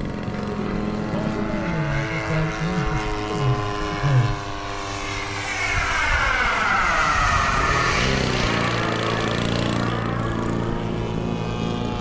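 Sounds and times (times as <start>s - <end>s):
model airplane engine flying past: 0.0s - 12.0s.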